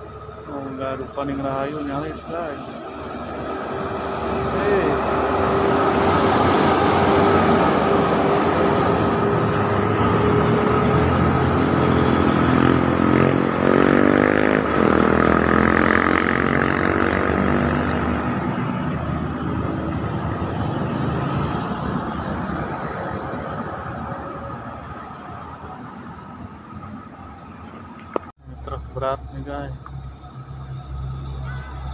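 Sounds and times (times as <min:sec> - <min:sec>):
heavy diesel engine labouring: 0:00.0 - 0:31.9.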